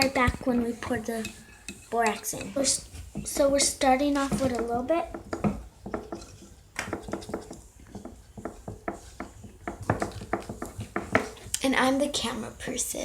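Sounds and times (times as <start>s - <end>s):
spoon scraping mixing bowl: 0.0s - 11.6s.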